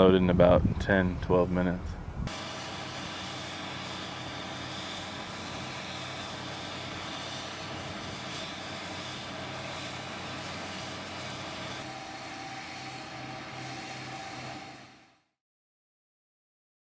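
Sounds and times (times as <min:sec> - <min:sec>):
high turbine whine: 0:00.2 - 0:15.3
jet engines running: 0:01.2 - 0:15.0.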